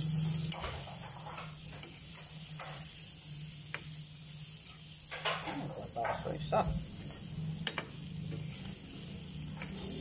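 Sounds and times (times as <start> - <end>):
crabs sizzling in oil: 0.0 - 10.0.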